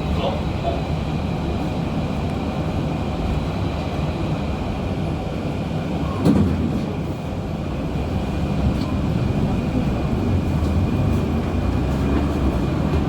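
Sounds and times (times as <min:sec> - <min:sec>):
tram rumbling on track: 0:00.0 - 0:13.0.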